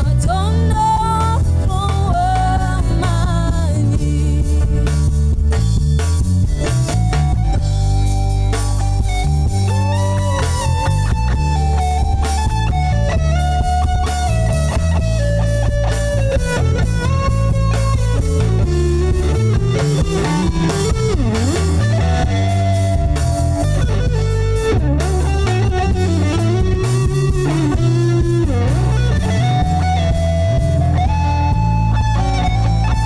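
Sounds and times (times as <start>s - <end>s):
bass and drums: 0.0s - 33.0s
electric guitar solo: 6.3s - 33.0s.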